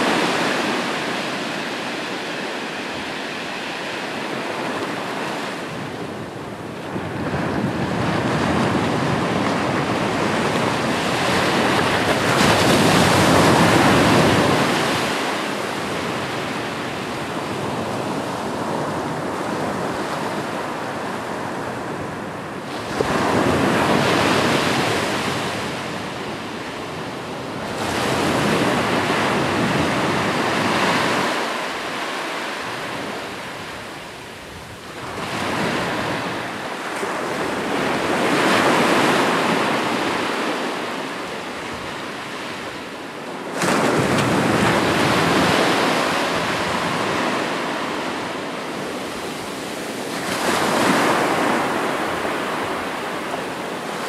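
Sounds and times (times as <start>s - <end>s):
waves breaking on shore: 0.0s - 54.0s.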